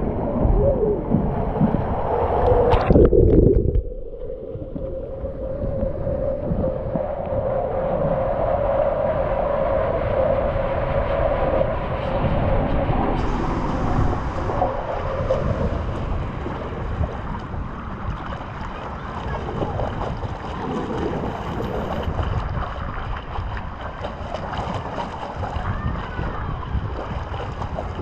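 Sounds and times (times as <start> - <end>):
water rushing down a slide: 0.0 - 28.0
wind noise on microphone: 0.0 - 28.0.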